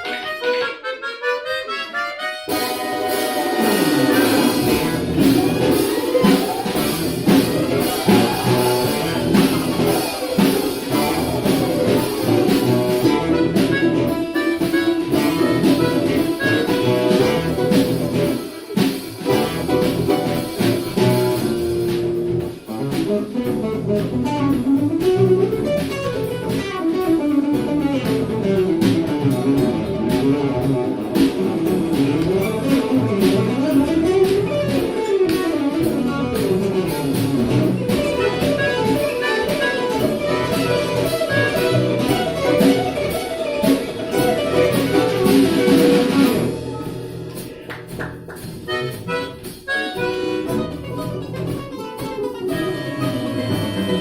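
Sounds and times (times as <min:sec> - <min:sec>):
jazz ensemble playing: 0:00.0 - 0:54.0.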